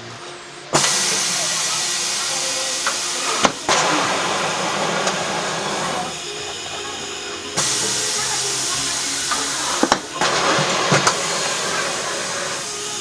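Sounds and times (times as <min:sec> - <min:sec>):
compressed air hissing from hose: 0:00.0 - 0:13.0.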